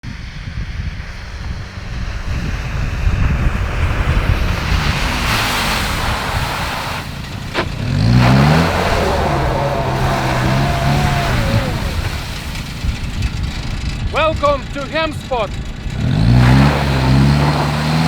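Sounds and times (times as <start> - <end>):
vehicle engine running: 0.0 - 18.0
wind buffeting microphone: 0.0 - 18.0.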